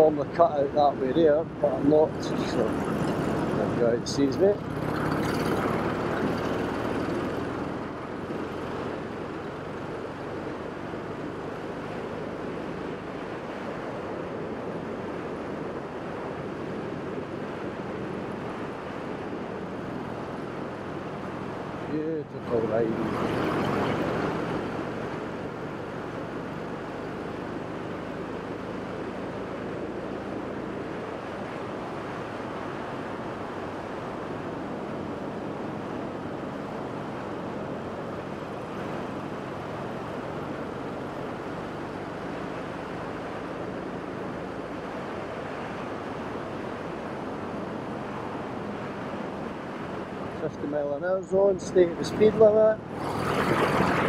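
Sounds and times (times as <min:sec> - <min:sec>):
wind and road rush: 0:00.0 - 0:54.0.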